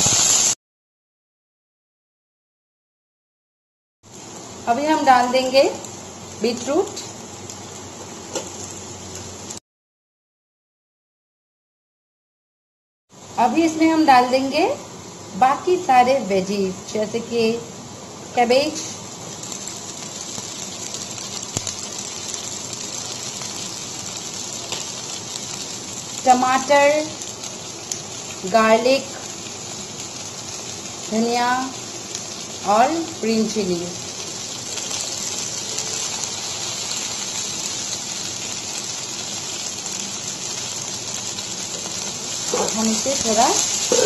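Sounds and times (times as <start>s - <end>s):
vegetables sizzling in hot oil: 0.0s - 0.6s, 4.1s - 9.6s, 13.2s - 44.0s.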